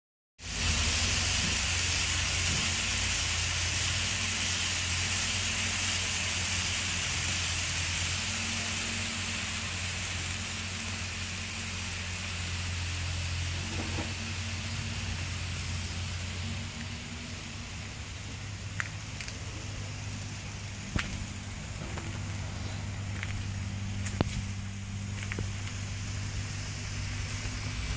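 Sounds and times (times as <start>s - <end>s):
constant hiss: 0.4s - 27.9s
model train humming: 0.4s - 27.9s.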